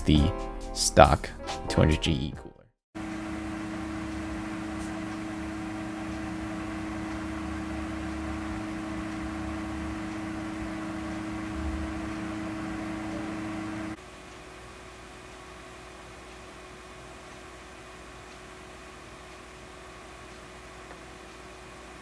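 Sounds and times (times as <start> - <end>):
cpu cooler fan whirring: 3.0 - 22.0.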